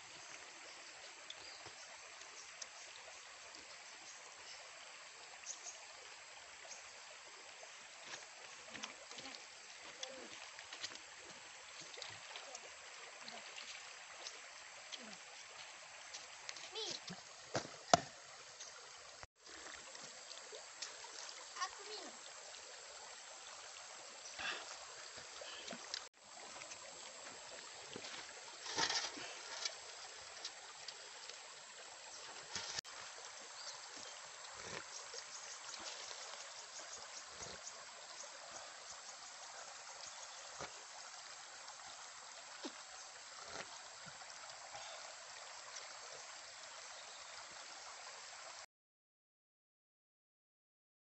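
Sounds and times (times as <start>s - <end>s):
shallow stream running: 0.0s - 48.7s.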